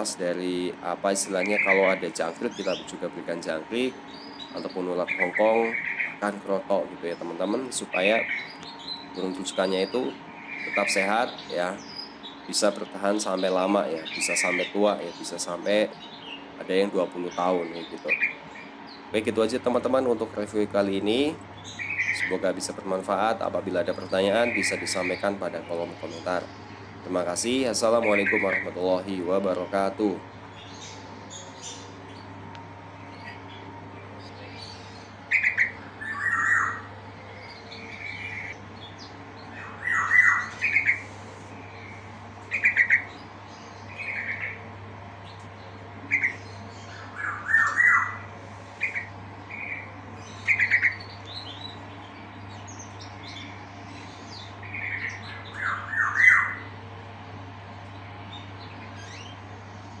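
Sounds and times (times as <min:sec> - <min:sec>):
bird chirping calls: 0:00.0 - 1:00.0.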